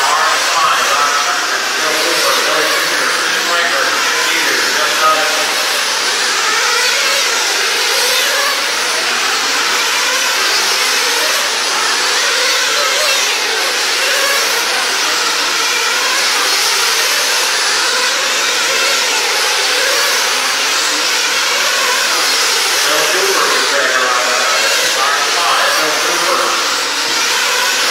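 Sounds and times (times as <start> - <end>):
rc car engines whining: 0.0 - 27.9.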